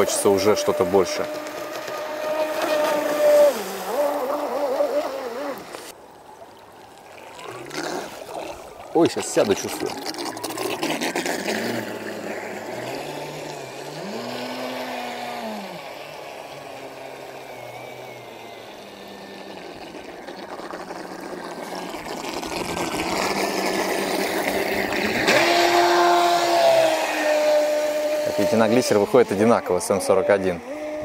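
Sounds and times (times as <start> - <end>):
electric motor whine: 0.0 - 6.0, 10.0 - 31.0
boat wake hissing: 0.0 - 31.0.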